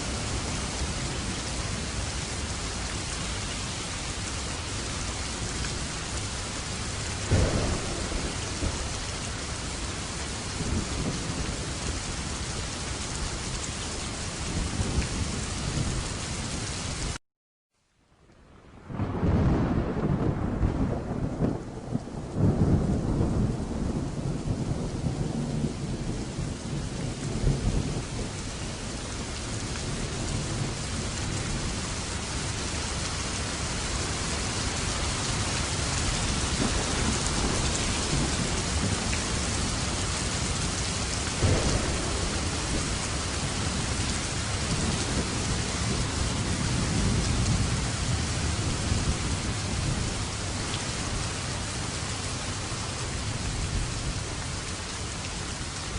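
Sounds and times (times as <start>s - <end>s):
heavy rain falling: 0.0s - 17.2s, 18.4s - 55.9s
low thunder rumbles: 4.3s - 16.2s, 18.7s - 54.6s.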